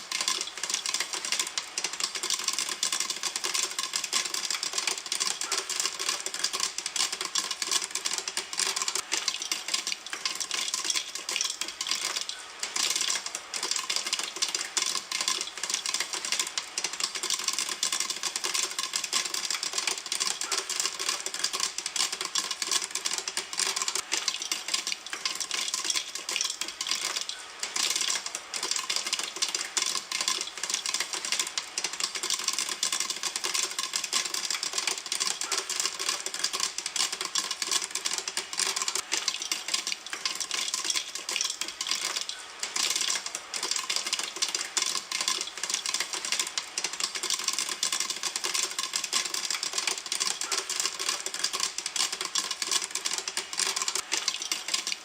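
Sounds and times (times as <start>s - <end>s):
popcorn popping in a pan: 0.0s - 55.0s.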